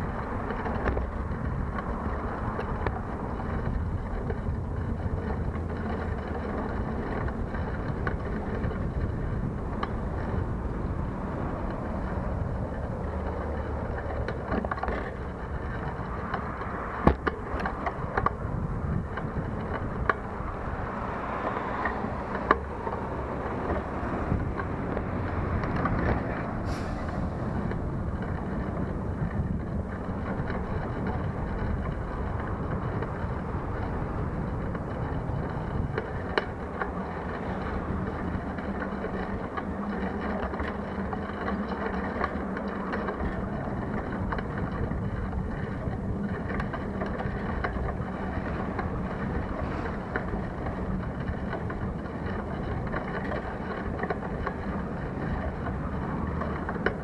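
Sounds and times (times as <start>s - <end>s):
road traffic passing: 0.0s - 57.0s
wind rumble on microphone: 0.0s - 57.0s.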